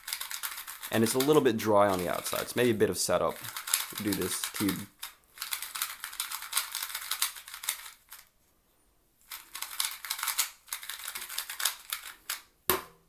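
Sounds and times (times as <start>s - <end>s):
puzzle cube plastic clacking: 0.0s - 8.3s, 9.3s - 12.5s.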